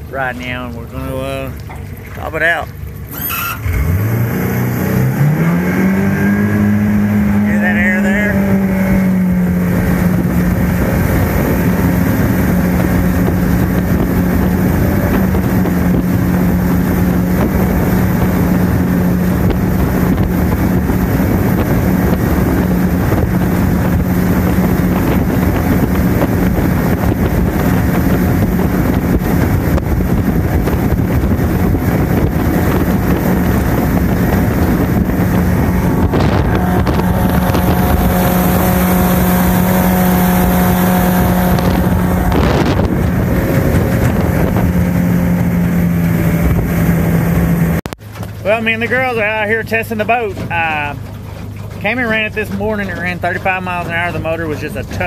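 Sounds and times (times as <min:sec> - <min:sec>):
boat engine drone: 0:00.0 - 0:55.0
rushing water: 0:00.0 - 0:55.0
wind noise on microphone: 0:03.0 - 0:55.0.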